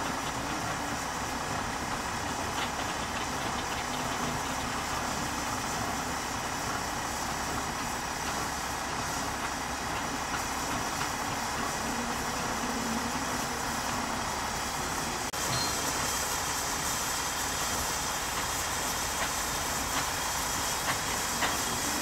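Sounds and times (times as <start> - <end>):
steam traction engines running: 0.0 - 22.0.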